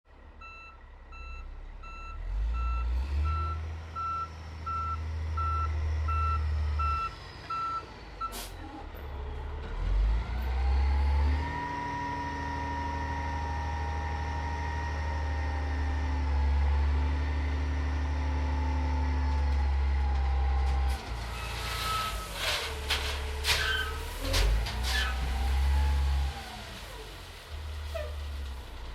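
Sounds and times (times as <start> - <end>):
diesel engine rumble: 0.1 - 28.9.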